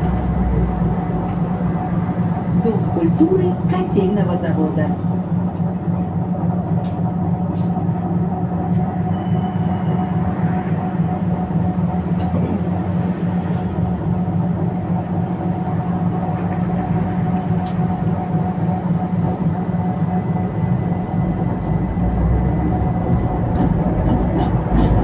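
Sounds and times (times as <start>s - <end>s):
tram wheels on rails: 0.0s - 25.0s.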